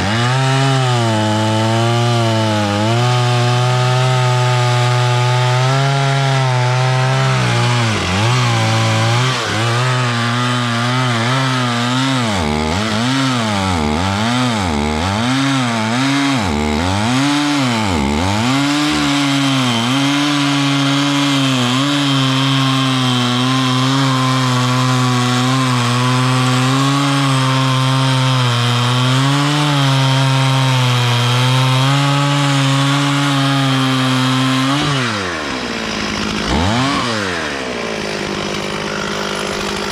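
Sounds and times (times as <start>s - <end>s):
chainsaw sawing through wood: 0.0s - 39.9s.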